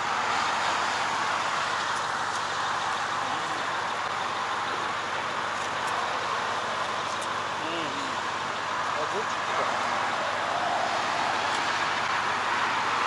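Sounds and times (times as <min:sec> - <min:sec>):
road traffic rushing: 0:00.0 - 0:13.0.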